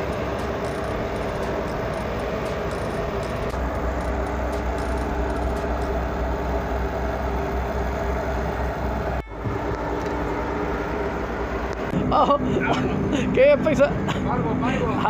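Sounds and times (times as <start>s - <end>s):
engine drone with low hum: 0.0s - 15.0s.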